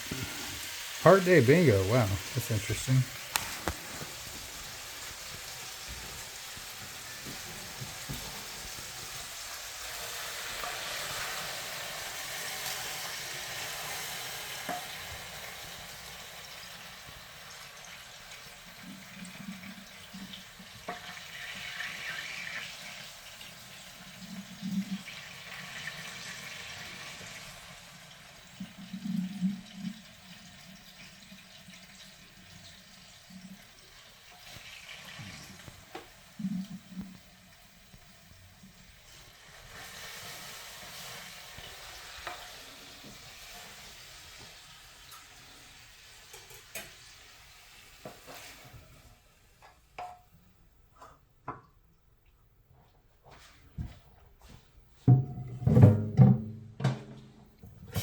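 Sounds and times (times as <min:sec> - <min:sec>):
meat sizzling in a wok: 0:00.0 - 0:50.0.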